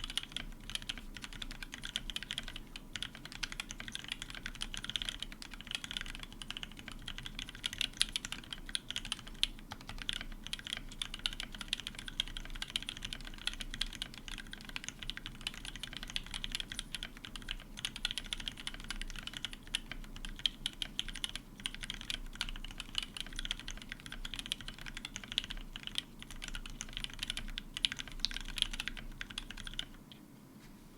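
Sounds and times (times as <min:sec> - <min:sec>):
fast typing on mechanical keyboard: 0:00.0 - 0:30.0.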